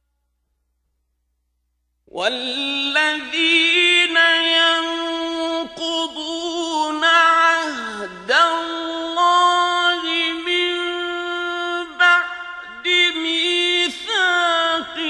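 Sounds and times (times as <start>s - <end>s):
man chanting recitation: 2.2s - 15.0s.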